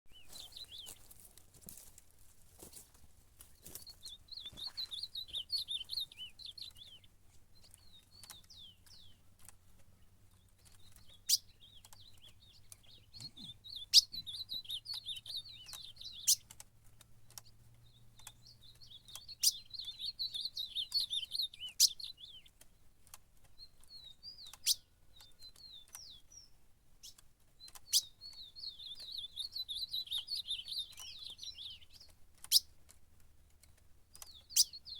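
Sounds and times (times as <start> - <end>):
bird warbling song: 0.1 - 1.3, 3.5 - 16.6, 17.2 - 32.8, 33.5 - 34.9.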